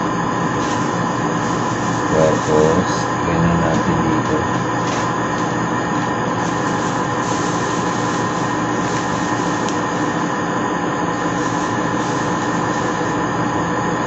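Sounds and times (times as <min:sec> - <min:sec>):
steady droning noise: 0:00.0 - 0:14.0.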